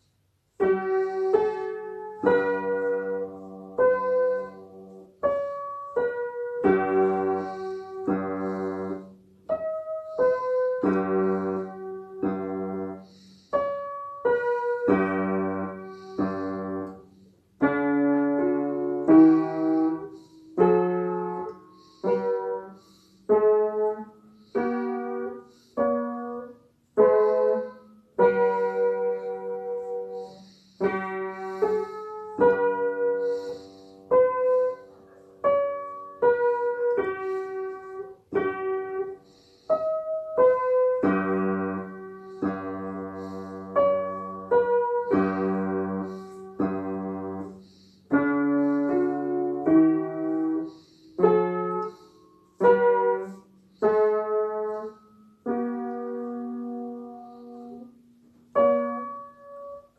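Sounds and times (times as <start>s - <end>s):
piano minuet: 0.0s - 59.9s.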